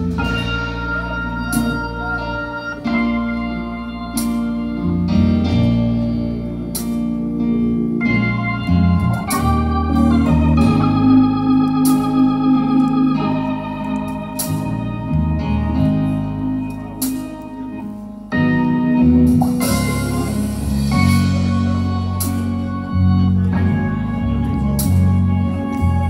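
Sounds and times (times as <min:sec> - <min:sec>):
organ playing gospel chords: 0:00.0 - 0:26.0
stepping bass line: 0:00.0 - 0:26.0.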